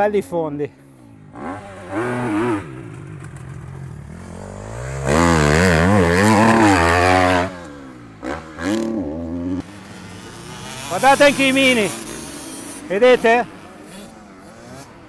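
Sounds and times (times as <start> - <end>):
dirt bike engine revving: 1.0 - 15.0.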